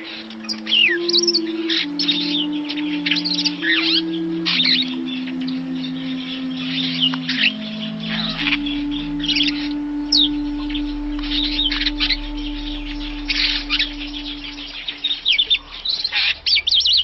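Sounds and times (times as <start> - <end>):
low hum: 0.0 - 17.0
starling singing: 0.0 - 17.0.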